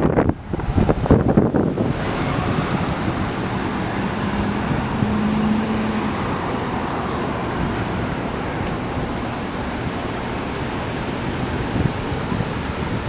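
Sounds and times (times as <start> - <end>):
heavy rain: 0.0 - 13.0
storm wind: 0.0 - 13.0.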